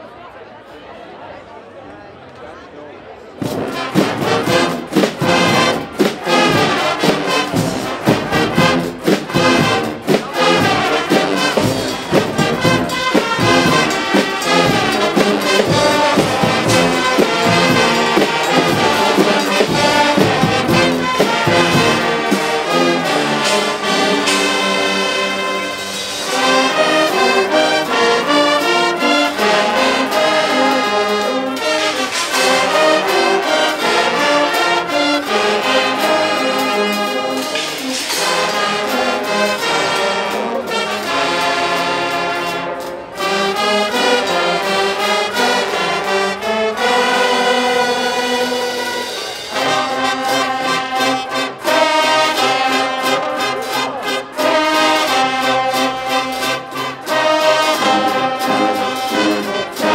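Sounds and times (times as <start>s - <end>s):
brass band playing: 3.4s - 59.9s.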